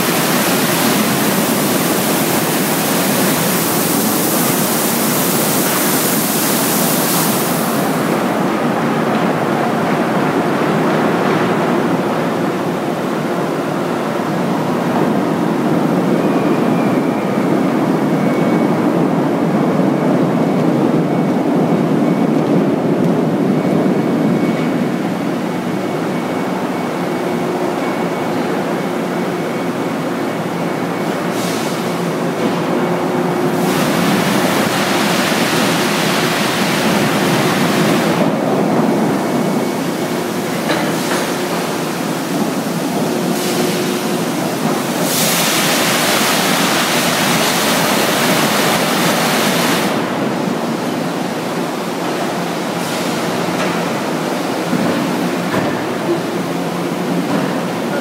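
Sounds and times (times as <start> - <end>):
rolling mill rumble: 0.0 - 58.0.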